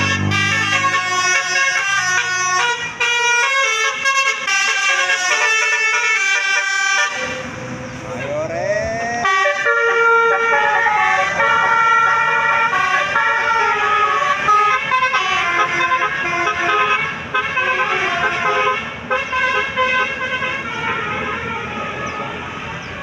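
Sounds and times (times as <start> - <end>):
musical bus horn: 0.0 - 8.5, 9.1 - 23.0.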